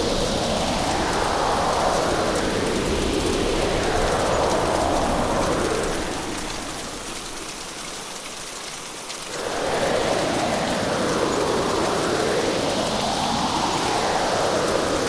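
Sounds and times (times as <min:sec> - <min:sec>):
heavy rain and wind: 0:00.0 - 0:15.0.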